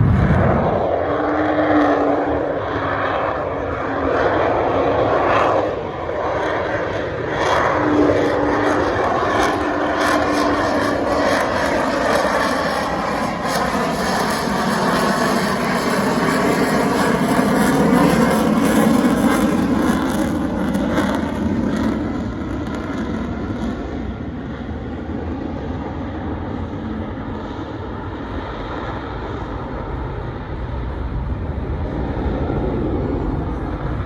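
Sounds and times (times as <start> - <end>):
airplane flying past: 0.0 - 34.0.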